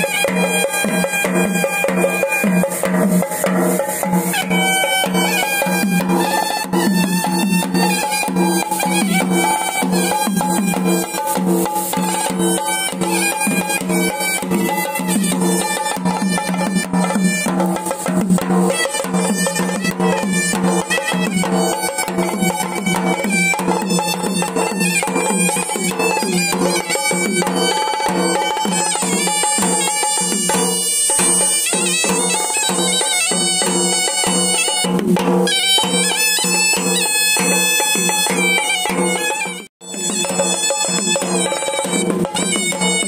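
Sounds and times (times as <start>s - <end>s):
barrel drums beaten rapidly: 0.0s - 43.0s
reedy shawm melody: 0.0s - 43.0s.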